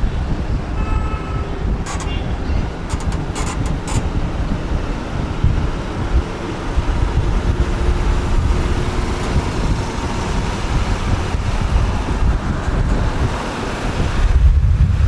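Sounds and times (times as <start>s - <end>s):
motorbike engine: 0.0s - 15.0s
road rumble: 0.0s - 15.0s
wind buffeting microphone: 0.0s - 15.0s.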